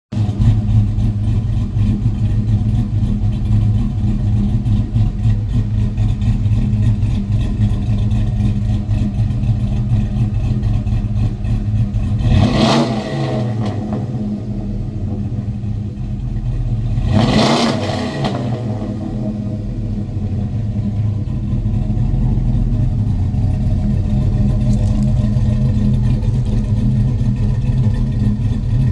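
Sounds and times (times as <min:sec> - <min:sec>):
engine idling choppily: 0:00.1 - 0:28.9
engine throttle blips: 0:00.2 - 0:28.9.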